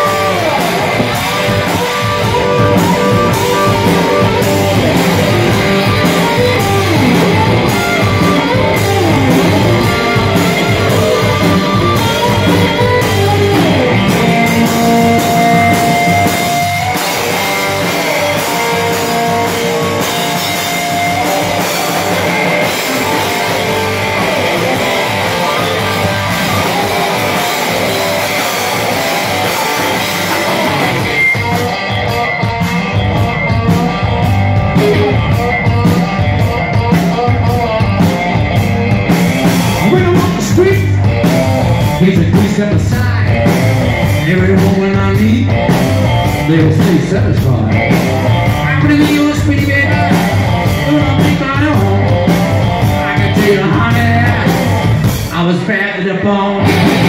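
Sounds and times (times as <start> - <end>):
electric guitar lead notes: 0.0 - 55.4, 56.2 - 57.0
drum kit: 0.0 - 55.8, 56.6 - 57.0.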